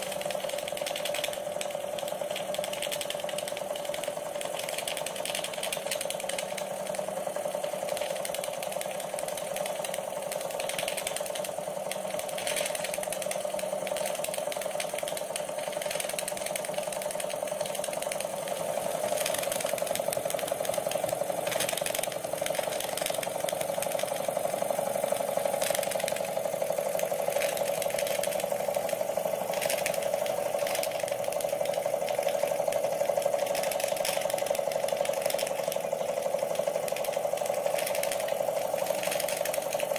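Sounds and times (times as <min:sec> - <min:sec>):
model steam engine clattering: 0:00.0 - 0:39.9.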